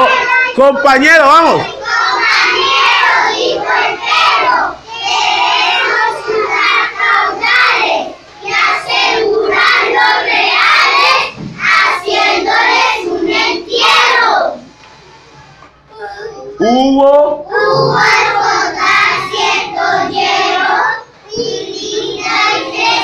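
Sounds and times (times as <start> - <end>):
children singing in unison: 1.6 - 14.8, 17.4 - 23.0.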